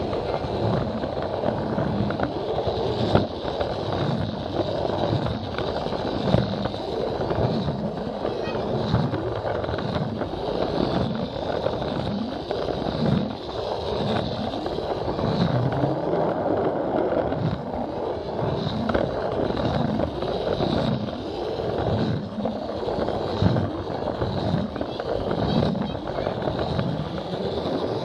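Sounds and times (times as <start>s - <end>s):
toy train motor whirring: 0.0s - 28.0s
wheels rattling on plastic track: 0.0s - 28.0s.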